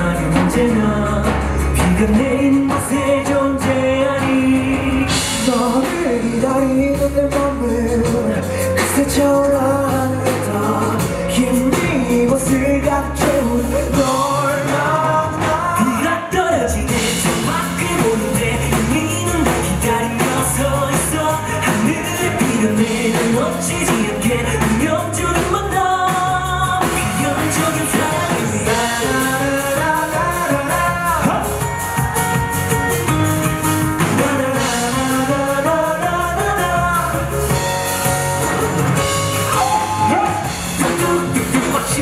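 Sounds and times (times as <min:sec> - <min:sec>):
man singing: 0:00.0 - 0:32.0, 0:33.1 - 0:42.0
drums: 0:00.0 - 0:42.0
electric bass: 0:00.0 - 0:42.0
keyboard: 0:00.0 - 0:42.0.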